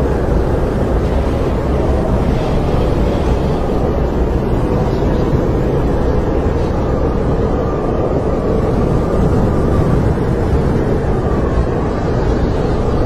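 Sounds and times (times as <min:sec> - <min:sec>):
howling snowstorm wind: 0:00.0 - 0:13.0.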